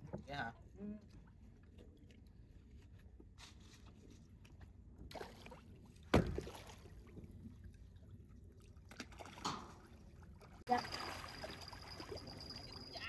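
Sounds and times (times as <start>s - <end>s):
water lapping around a boat: 0.0s - 13.0s.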